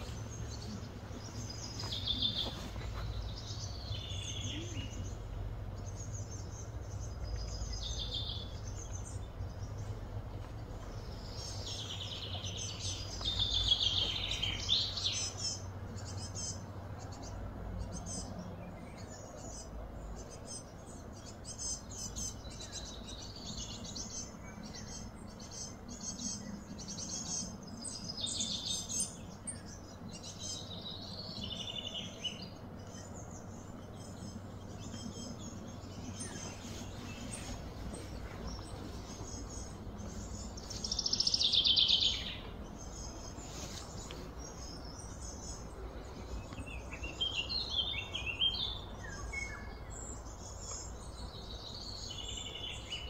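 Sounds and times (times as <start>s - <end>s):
birds chirping and calling: 0.0s - 53.0s
steady low hum: 0.0s - 53.0s.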